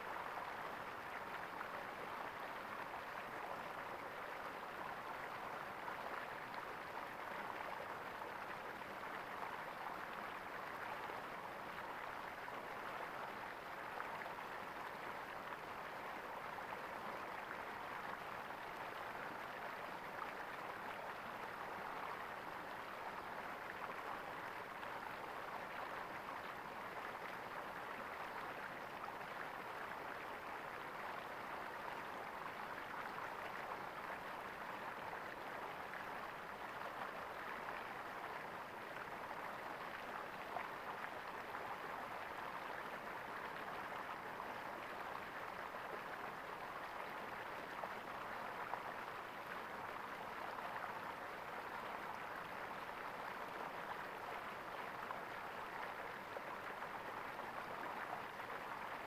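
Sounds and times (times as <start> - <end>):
water gurgling in a stream: 0.1 - 59.0.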